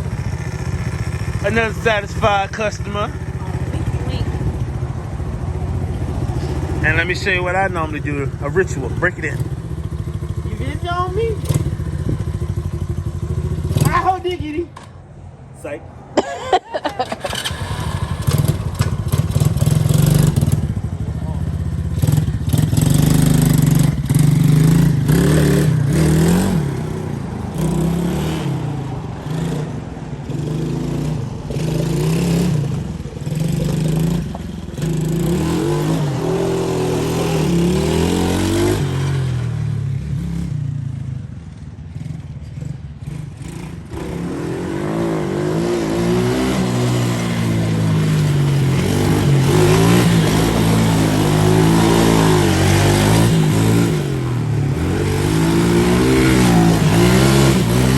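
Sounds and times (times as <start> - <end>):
quad bike engine revving: 0.0 - 14.9, 16.8 - 57.9.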